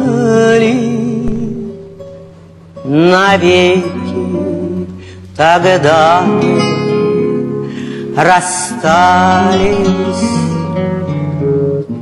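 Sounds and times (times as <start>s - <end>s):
plucked acoustic guitars: 0.0s - 12.0s.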